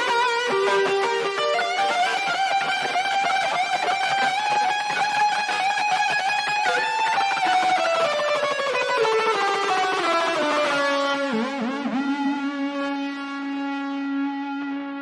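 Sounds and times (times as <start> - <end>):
electric guitar lead: 0.0 - 15.0
instrumental pop music: 0.0 - 15.0.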